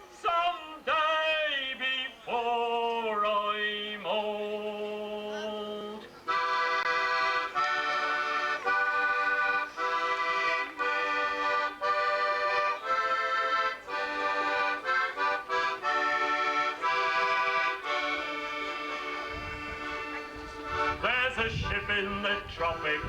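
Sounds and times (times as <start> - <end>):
accordion playing: 4.3 - 23.0.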